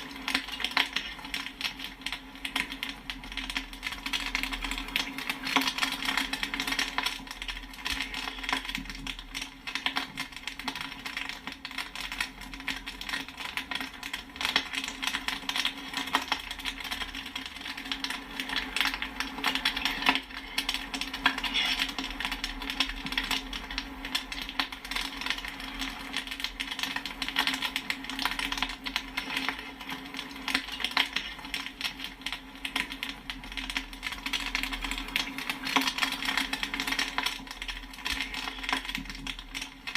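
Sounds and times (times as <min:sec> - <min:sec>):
popcorn popping: 0:00.0 - 0:39.9.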